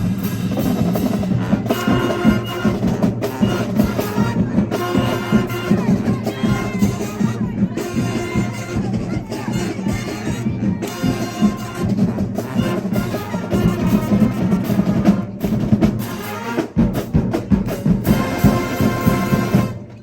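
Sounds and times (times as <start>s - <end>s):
marching drum line: 0.0s - 20.0s
brass holding chords: 1.2s - 16.9s, 18.0s - 19.9s.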